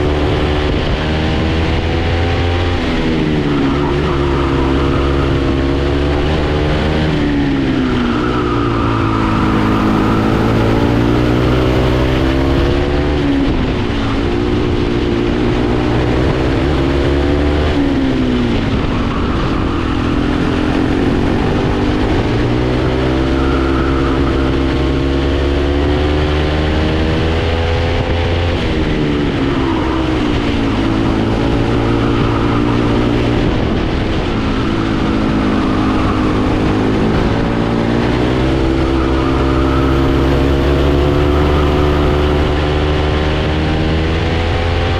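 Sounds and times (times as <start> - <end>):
kart engine at full throttle: 0.0 - 44.9.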